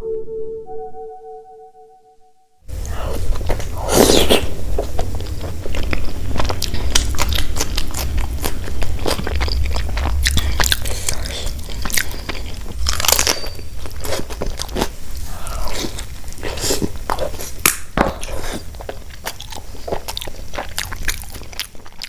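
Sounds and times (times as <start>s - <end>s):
crunchy chewing of fried food: 2.7s - 22.0s
steady low hum: 2.7s - 22.0s.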